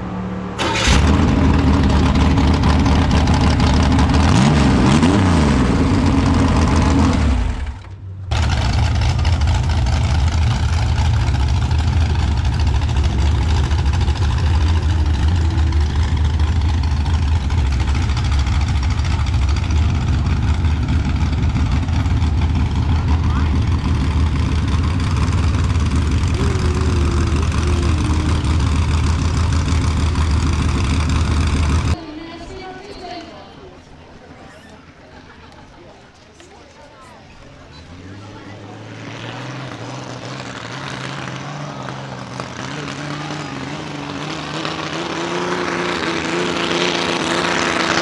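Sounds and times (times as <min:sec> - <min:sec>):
engine running steadily: 0:00.0 - 0:32.0, 0:35.2 - 0:48.0
loud tractor engine running: 0:00.0 - 0:32.0, 0:37.4 - 0:48.0.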